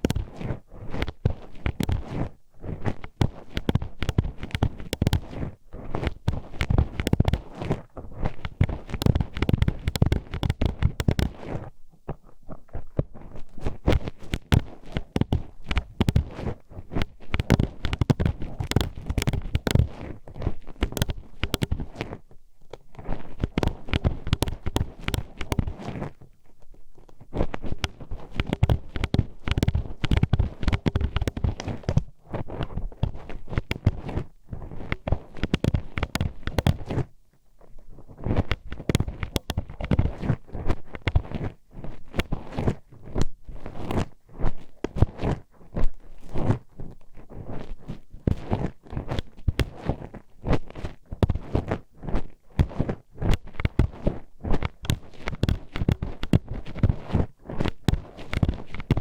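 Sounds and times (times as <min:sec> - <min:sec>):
hairpin scraping on microphone: 0:00.0 - 0:37.1, 0:37.8 - 0:59.0.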